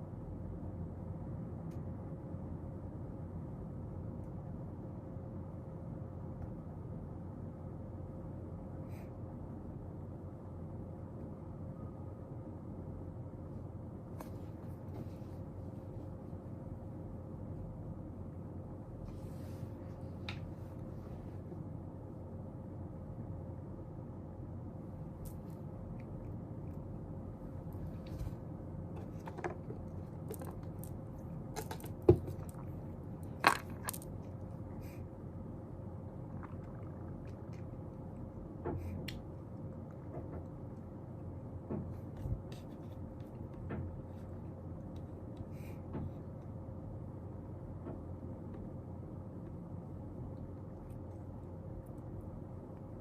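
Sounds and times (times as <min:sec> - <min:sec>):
room hum: 0:00.0 - 0:53.0.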